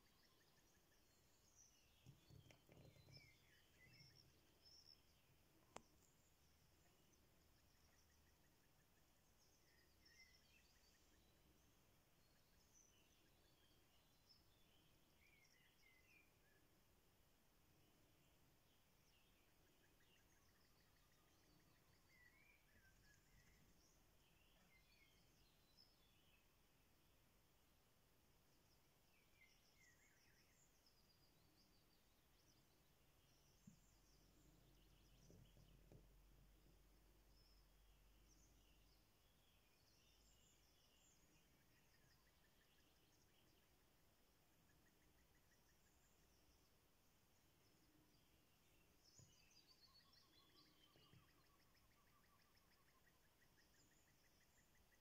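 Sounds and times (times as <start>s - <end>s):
songbird chirps and trills: 0.0s - 55.0s.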